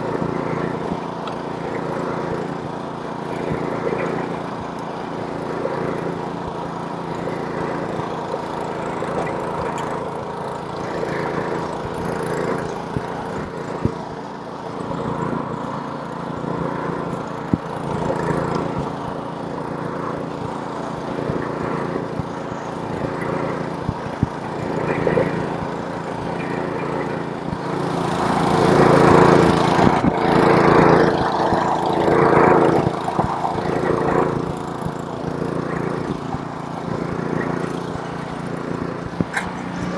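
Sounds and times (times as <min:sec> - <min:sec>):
snowblower engine running: 0:00.0 - 0:39.9
sharp ticks: 0:03.3 - 0:39.9.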